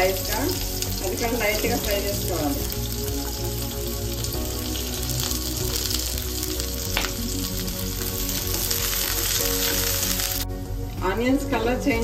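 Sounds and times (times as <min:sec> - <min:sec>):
onions sizzling in hot oil: 0:00.0 - 0:11.3.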